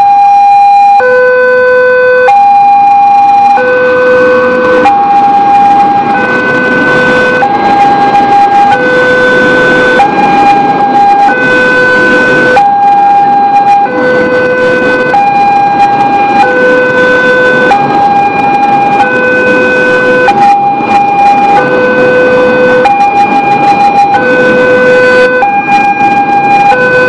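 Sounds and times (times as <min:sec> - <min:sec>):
train carriages rumbling past: 0:03.9 - 0:27.0.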